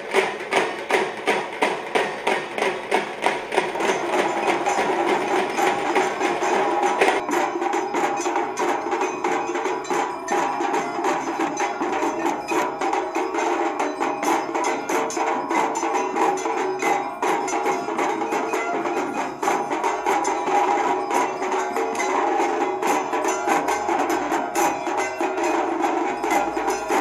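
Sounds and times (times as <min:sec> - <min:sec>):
fast percussion beat: 0:00.0 - 0:27.0.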